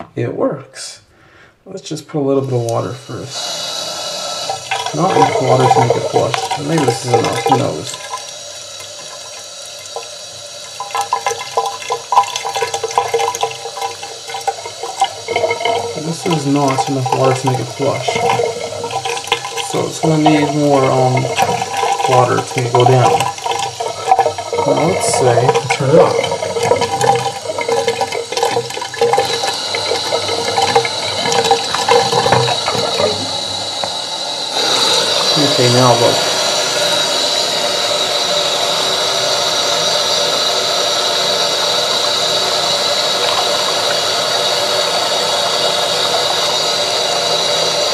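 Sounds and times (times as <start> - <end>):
tap water pouring into tub: 2.4 - 47.9
thin high whine: 2.6 - 47.9
water splashing and gurgling: 4.3 - 38.5, 39.8 - 47.9.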